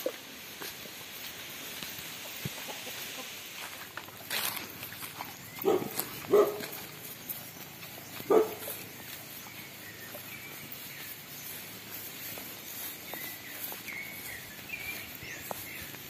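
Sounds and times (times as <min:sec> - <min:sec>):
quiet farmyard background: 0:00.0 - 0:16.0.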